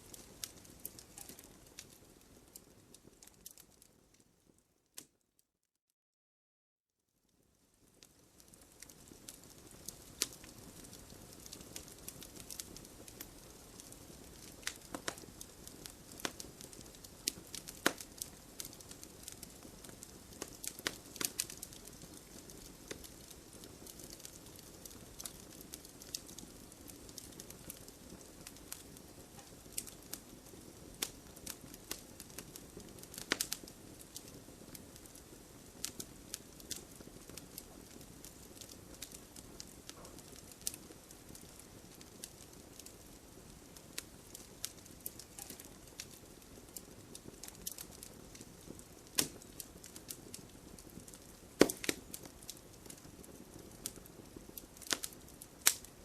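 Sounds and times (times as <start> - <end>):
campfire pops and snaps: 0.0 - 2.6, 8.4 - 43.0, 43.6 - 56.0
soft rush of burning: 0.0 - 4.5, 7.6 - 56.0.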